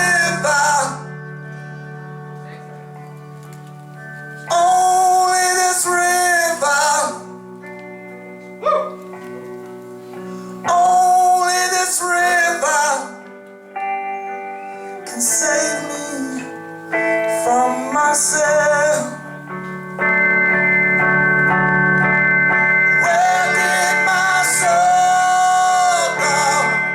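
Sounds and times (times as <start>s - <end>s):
guitars sustained chords: 0.0s - 26.9s
voices singing: 0.0s - 26.9s.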